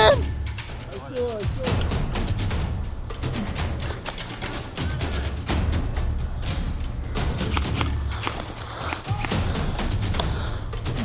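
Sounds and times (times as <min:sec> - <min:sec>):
music with heavy drum and bass: 0:00.0 - 0:11.0.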